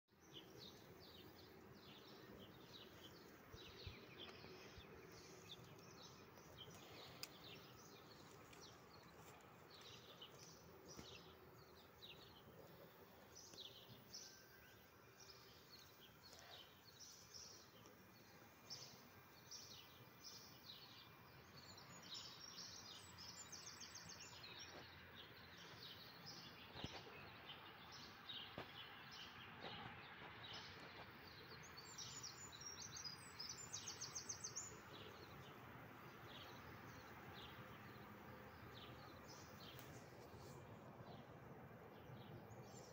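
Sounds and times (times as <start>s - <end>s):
small birds chirping: 0.1s - 42.9s.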